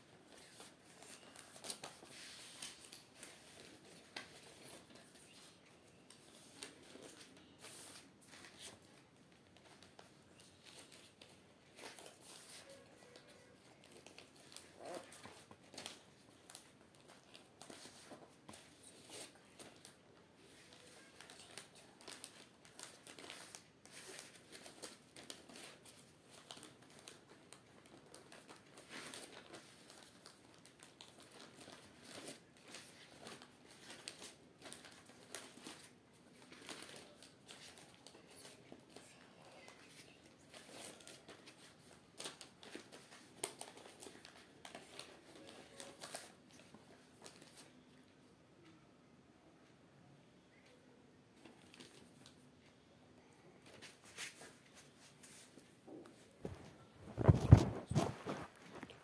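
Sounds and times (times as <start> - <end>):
paper rustling and crinkling: 0.0 - 47.7, 53.6 - 59.0.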